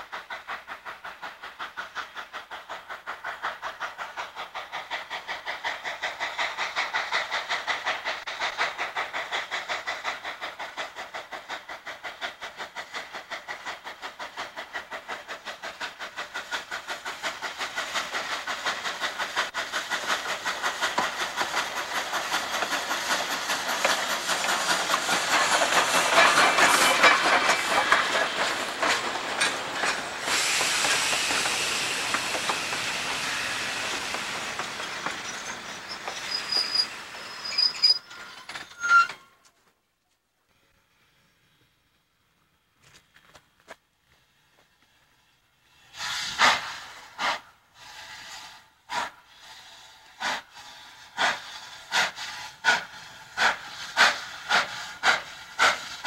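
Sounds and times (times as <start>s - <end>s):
steam locomotive chuffing: 0.0s - 39.2s, 43.2s - 56.0s
train wheels clickety-clack: 0.0s - 39.2s, 42.5s - 56.0s.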